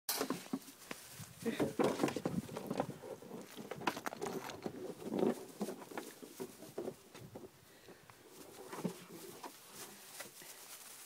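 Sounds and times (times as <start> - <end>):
puppy paws pattering: 0.5 - 11.0.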